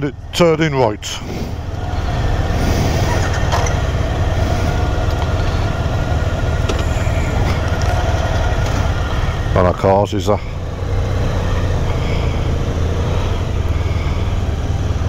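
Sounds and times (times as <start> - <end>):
motorcycle engines idling: 0.0 - 15.0.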